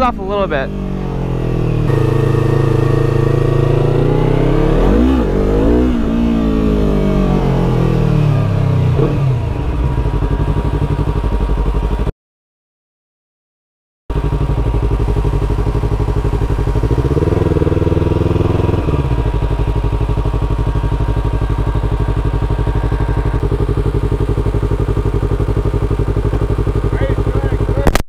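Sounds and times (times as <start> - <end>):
motorcycle engine idling and revving: 0.0 - 12.1, 14.1 - 28.0.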